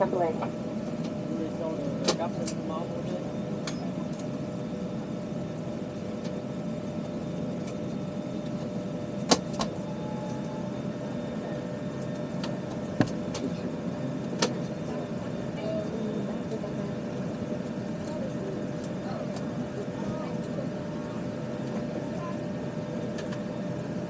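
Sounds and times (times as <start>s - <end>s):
aircraft cabin air hum: 0.0s - 24.0s.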